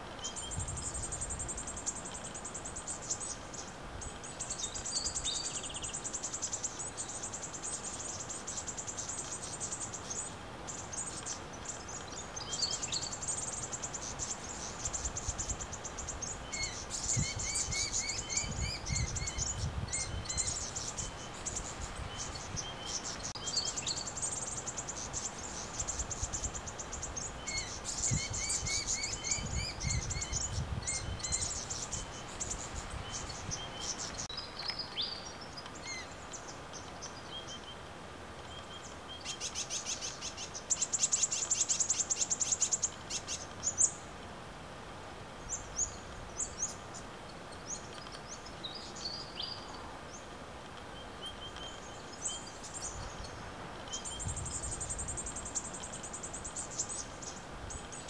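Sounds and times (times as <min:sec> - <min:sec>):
small bird chirps: 0:00.0 - 0:44.0, 0:45.4 - 0:58.0.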